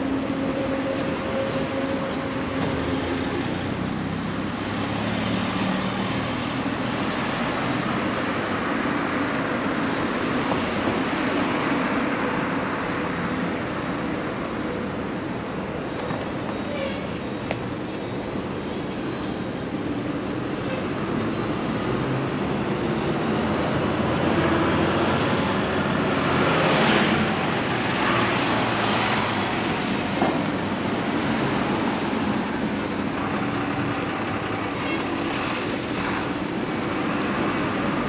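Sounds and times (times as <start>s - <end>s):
street traffic noise: 0.0s - 38.0s.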